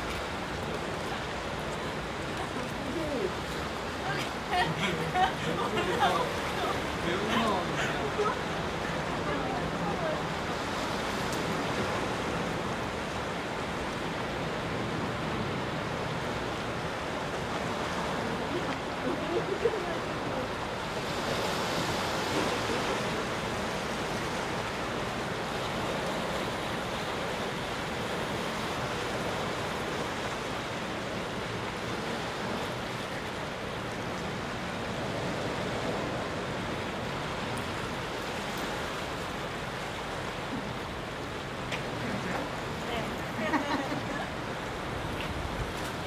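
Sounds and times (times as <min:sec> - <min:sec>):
surf washing over rocky shore: 0:00.0 - 0:46.0.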